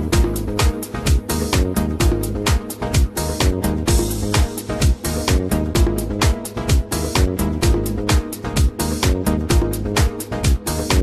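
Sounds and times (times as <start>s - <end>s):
dance-pop music: 0.0s - 11.0s
kick drum: 0.0s - 11.0s
synth chords: 0.0s - 11.0s.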